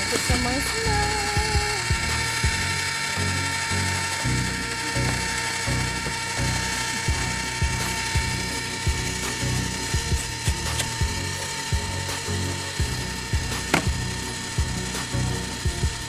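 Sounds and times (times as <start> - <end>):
ice cream maker grinding and clicking: 0.0 - 16.0.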